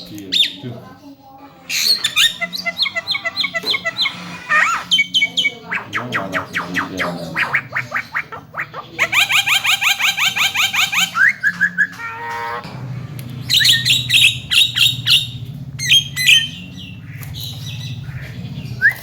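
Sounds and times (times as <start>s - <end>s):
bird whistling and squawking: 1.7s - 12.6s, 13.5s - 19.0s.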